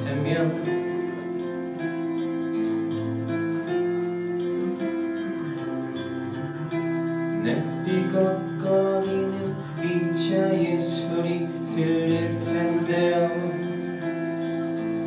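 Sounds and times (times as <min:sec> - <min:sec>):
guitar notes and chords: 0:00.0 - 0:15.0.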